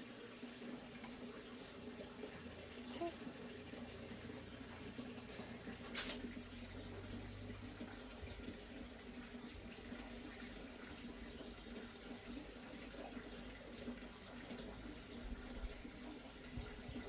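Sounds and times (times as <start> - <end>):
faint running water: 0.0 - 17.0.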